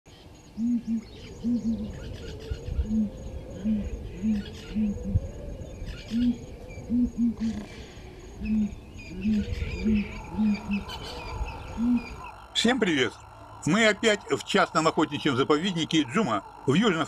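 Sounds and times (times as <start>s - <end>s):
faint high chirping: 0.1s - 17.0s
bird hooting: 0.6s - 17.0s.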